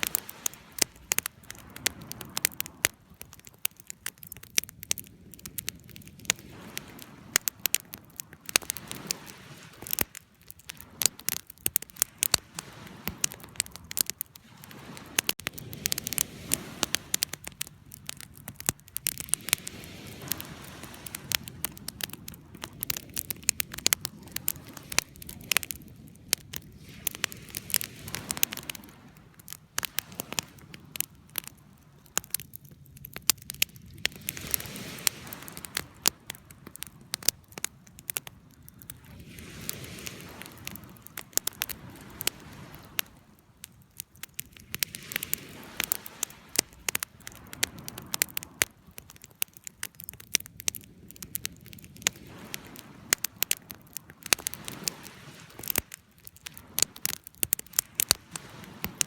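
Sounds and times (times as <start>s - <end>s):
hiss of flames: 0.0s - 49.4s, 50.0s - 59.0s
campfire crackling and popping: 0.0s - 59.0s.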